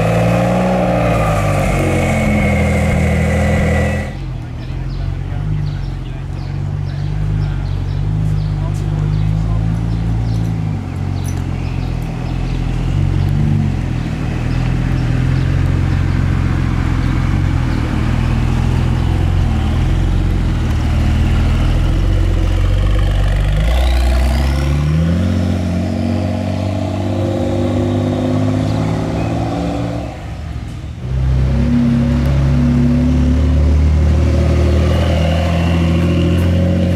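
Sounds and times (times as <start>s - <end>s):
car engine revving: 0.0s - 4.2s, 6.7s - 36.9s.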